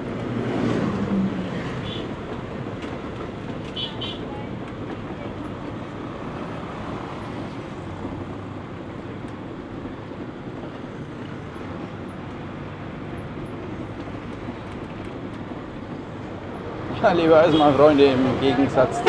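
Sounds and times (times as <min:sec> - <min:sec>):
bus engine drone: 0:00.0 - 0:19.0
road and wind noise: 0:00.0 - 0:19.0.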